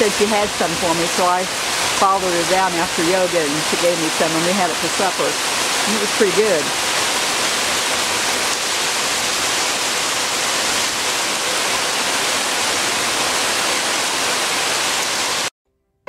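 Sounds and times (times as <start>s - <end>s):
heavy rain falling: 0.0s - 15.5s.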